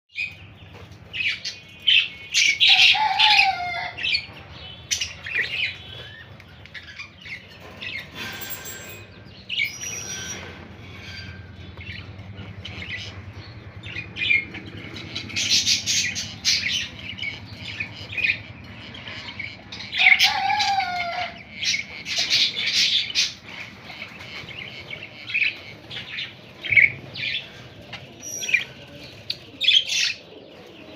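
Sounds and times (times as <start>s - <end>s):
budgerigars chirping: 0.2s - 30.2s.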